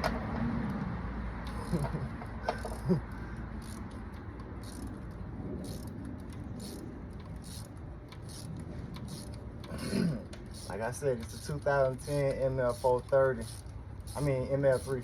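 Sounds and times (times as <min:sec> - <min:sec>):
steady low rumble: 0:00.0 - 0:15.0
tools and metal parts clicking: 0:01.4 - 0:15.0.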